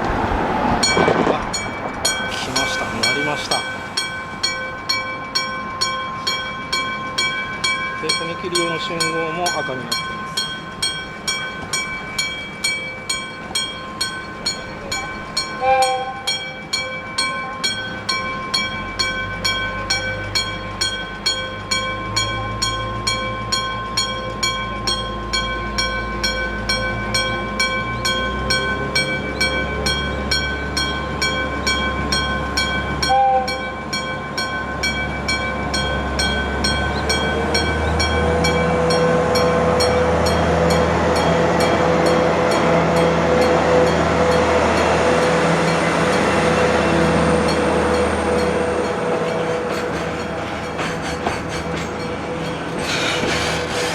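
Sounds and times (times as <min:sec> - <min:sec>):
diesel locomotive engine drone: 0:00.0 - 0:53.9
level-crossing bell striking: 0:00.8 - 0:52.8.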